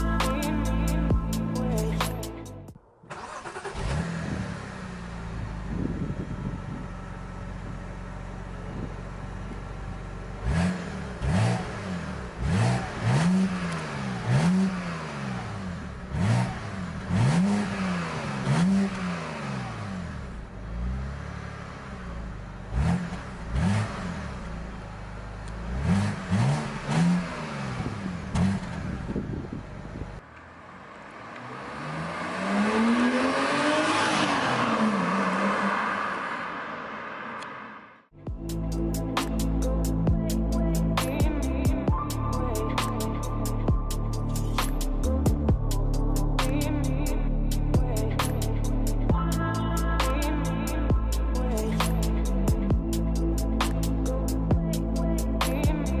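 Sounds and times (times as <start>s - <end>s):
car engine starting: 0.0s - 56.0s
car engine revving: 2.8s - 56.0s.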